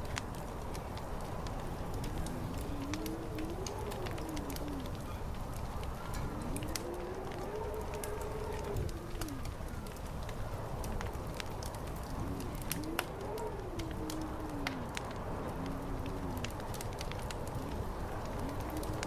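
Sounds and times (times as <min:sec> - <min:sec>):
fire crackling and popping: 0:00.0 - 0:19.0
wind howling: 0:00.0 - 0:19.0.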